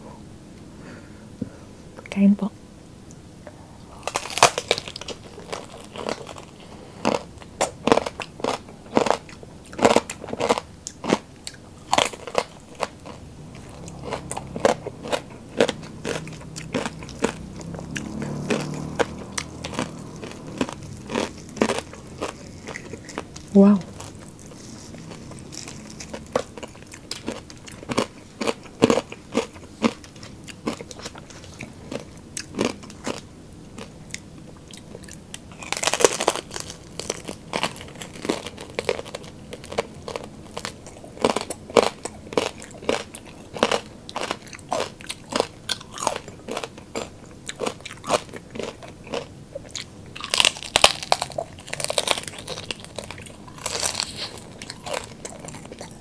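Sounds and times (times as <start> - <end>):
crunchy chewing: 4.0 - 56.0.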